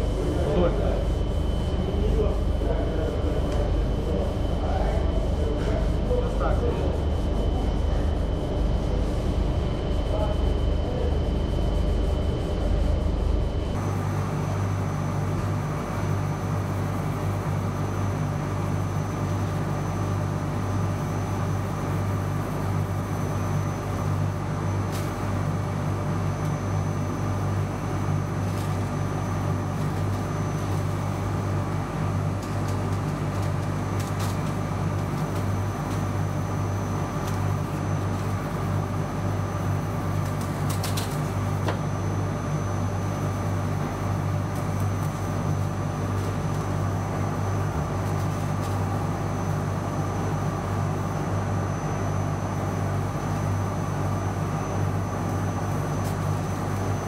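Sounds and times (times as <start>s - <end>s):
low electric machinery hum: 0.0s - 57.0s.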